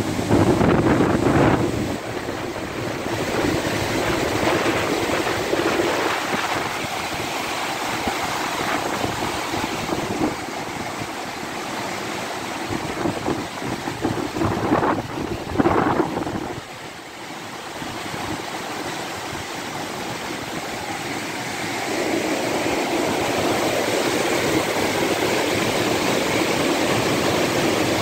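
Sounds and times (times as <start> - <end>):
water rushing over a weir: 0.0 - 28.0.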